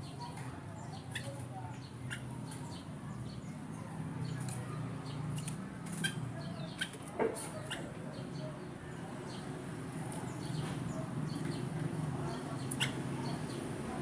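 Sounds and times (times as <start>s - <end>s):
bird chirping: 0.0s - 13.8s.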